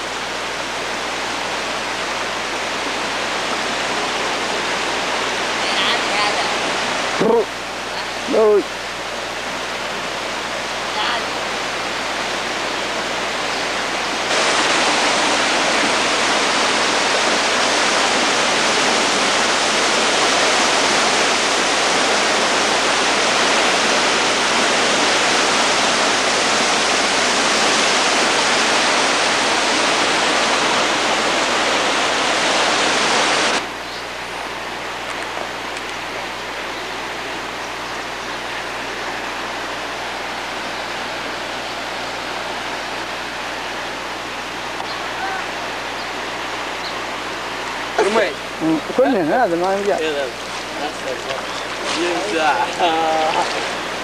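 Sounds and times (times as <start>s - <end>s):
flood water rushing: 0.0s - 54.0s.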